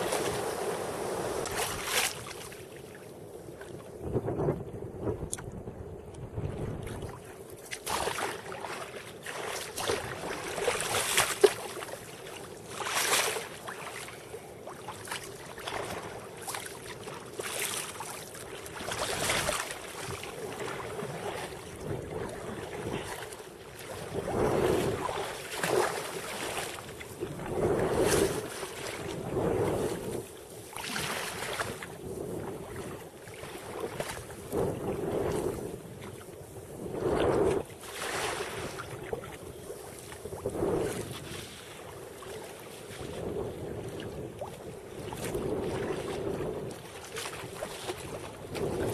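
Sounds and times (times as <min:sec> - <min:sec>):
wind buffeting microphone: 0:00.0 - 0:02.6, 0:03.2 - 0:11.9, 0:18.4 - 0:48.9
water splashing against kayak bow: 0:00.0 - 0:04.2, 0:06.4 - 0:48.9.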